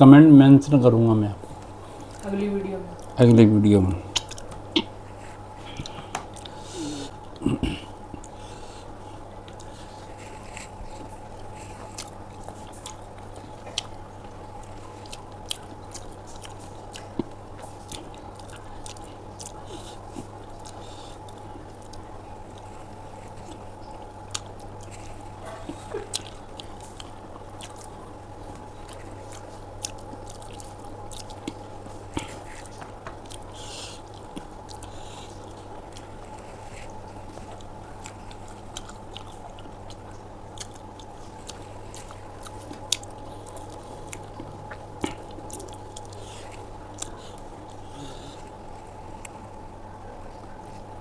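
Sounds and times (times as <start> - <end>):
steady low hum: 0.0 - 51.0
person chewing food: 4.1 - 51.0.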